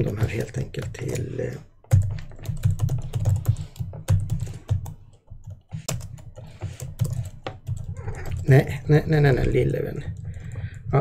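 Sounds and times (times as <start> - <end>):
keyboard typing: 0.0 - 11.0.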